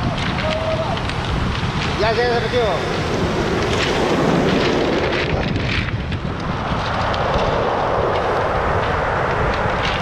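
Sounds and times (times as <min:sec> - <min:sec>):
surf roaring over pebbles: 0:00.0 - 0:10.0
wind on microphone: 0:00.0 - 0:10.0.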